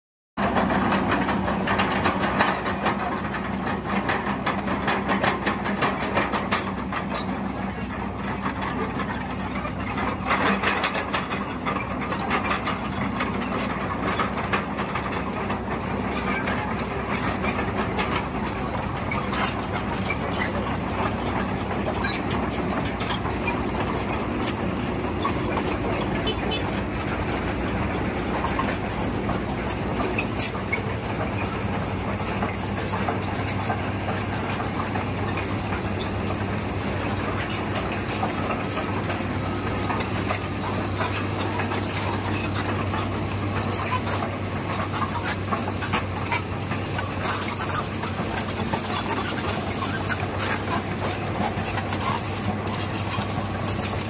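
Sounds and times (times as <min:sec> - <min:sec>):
diesel engines humming: 0:00.4 - 0:54.0
steel tracks clanking: 0:00.4 - 0:54.0.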